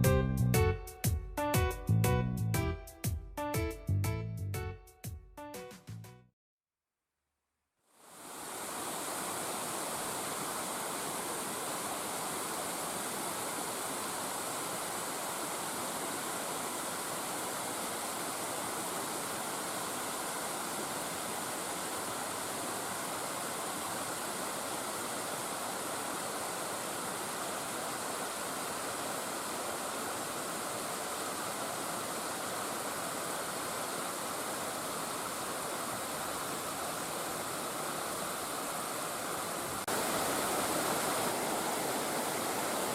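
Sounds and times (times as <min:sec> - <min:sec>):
stream pouring over rock: 0:08.0 - 0:42.9.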